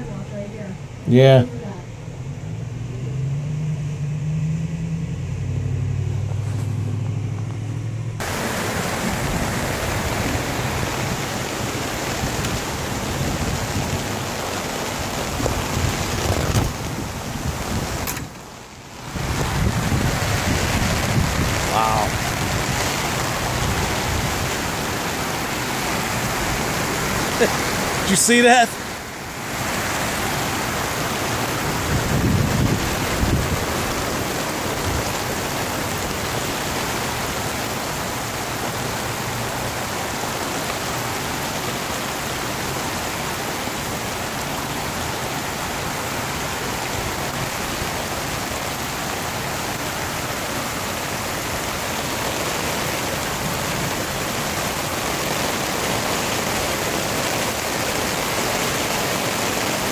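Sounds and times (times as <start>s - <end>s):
floodwater rushing along street: 0.0s - 59.9s
heavy rain on an umbrella: 8.2s - 59.9s.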